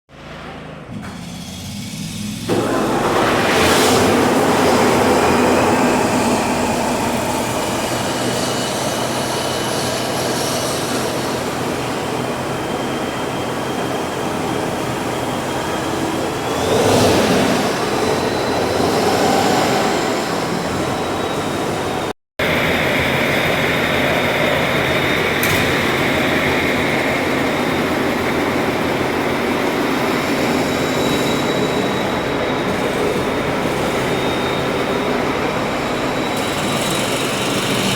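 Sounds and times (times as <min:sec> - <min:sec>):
truck diesel engine under load: 0:00.1 - 0:37.9
high whine: 0:01.8 - 0:37.9.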